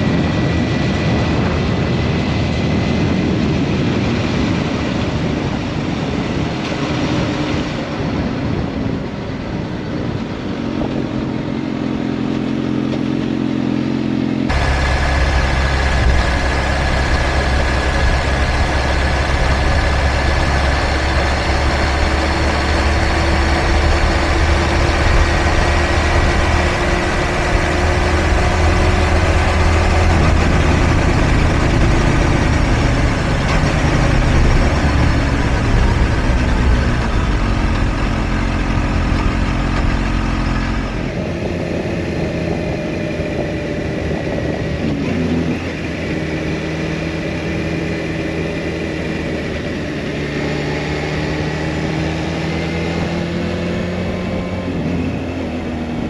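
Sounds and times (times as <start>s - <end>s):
heavy wind: 0.0s - 56.0s
motorcycle engine cruising: 0.0s - 56.0s
road rumble: 0.0s - 56.0s.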